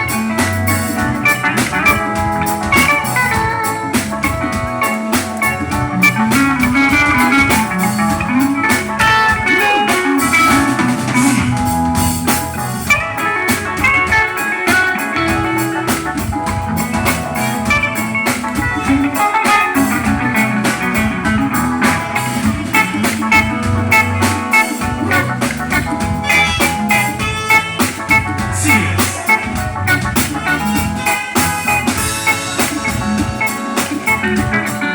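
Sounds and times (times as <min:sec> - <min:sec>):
bass line: 0:00.0 - 0:34.9
drum kit beat: 0:00.0 - 0:34.9
guitar melody: 0:00.0 - 0:34.9.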